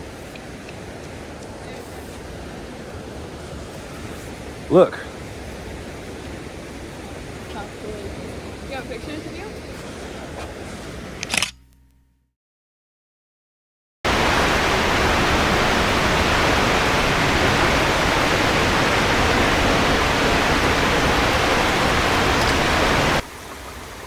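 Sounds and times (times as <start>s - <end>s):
waterfall rushing: 0.0s - 10.0s, 14.1s - 24.0s.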